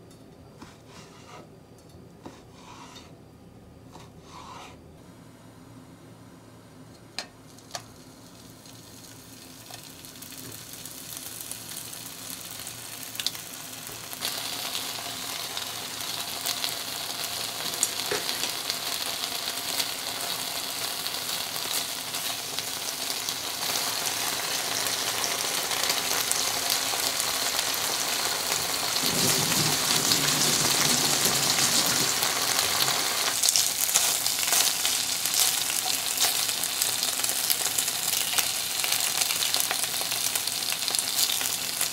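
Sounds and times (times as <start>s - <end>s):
bacon sizzling in a frying pan: 7.4s - 41.9s.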